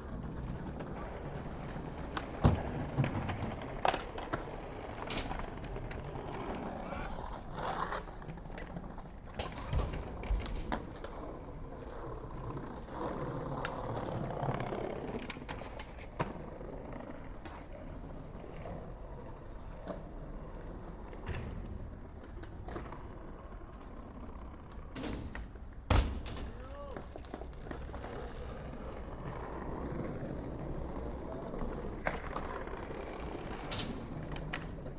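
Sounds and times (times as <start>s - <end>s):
skateboard clacks: 0.0s - 34.9s
skateboard wheels rumbling: 0.0s - 34.9s.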